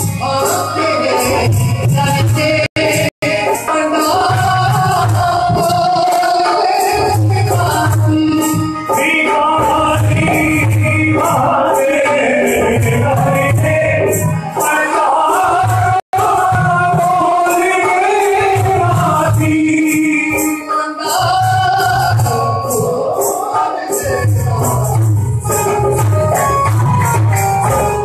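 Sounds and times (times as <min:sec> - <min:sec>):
dholak drum rhythm: 0:00.0 - 0:28.0
harmonium melody: 0:00.0 - 0:28.0
men singing: 0:00.0 - 0:28.0
rattling hand percussion: 0:00.0 - 0:28.0.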